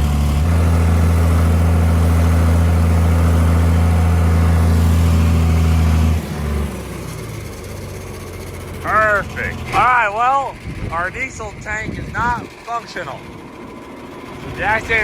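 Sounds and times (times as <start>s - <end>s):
diesel tractor engine: 0.0s - 15.0s.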